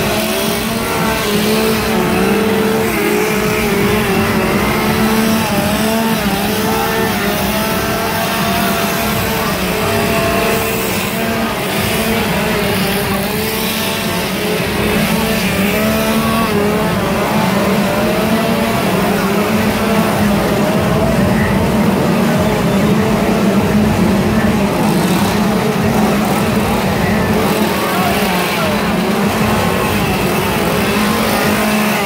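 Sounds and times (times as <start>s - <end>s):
chainsaw engines revving: 0.0s - 32.0s.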